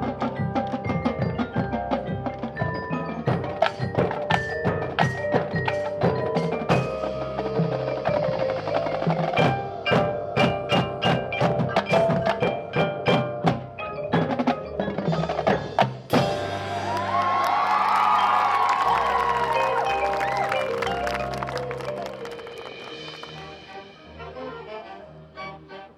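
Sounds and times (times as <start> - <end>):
drum and mallet percussion strikes: 0.0 - 24.0
marching band playing: 0.0 - 25.7.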